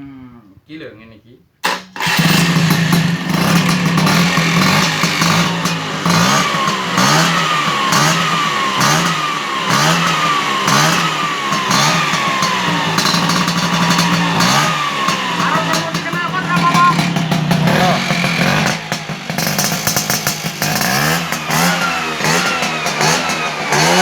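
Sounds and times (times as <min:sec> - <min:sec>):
scooter engine idling and revving: 0:01.6 - 0:24.0.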